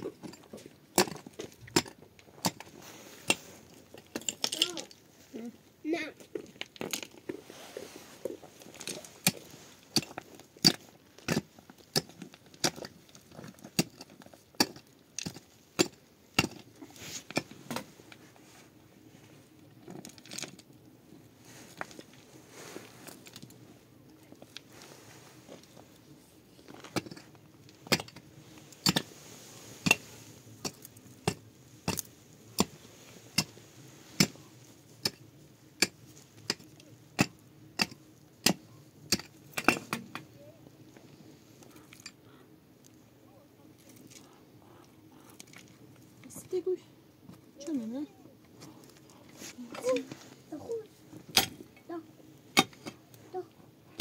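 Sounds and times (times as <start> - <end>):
faint steady background: 0.0 - 54.0.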